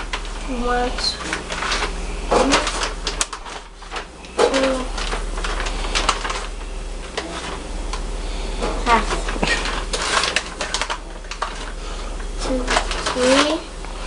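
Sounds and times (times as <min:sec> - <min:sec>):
crackles and clicks: 0:00.0 - 0:14.0.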